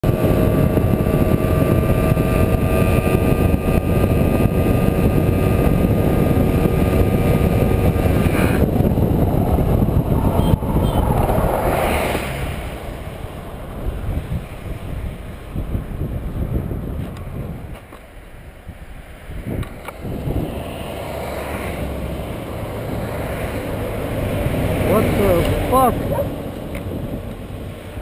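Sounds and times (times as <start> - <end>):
wind rush: 0.0 - 17.8, 18.4 - 28.0.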